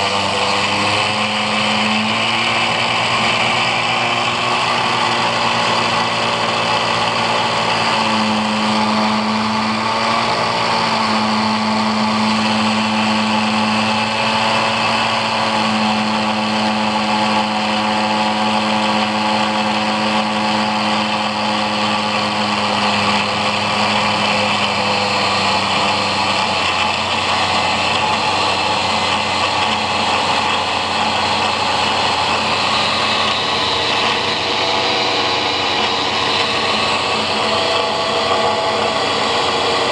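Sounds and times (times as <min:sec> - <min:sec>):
angle grinder motor running: 0:00.0 - 0:39.9.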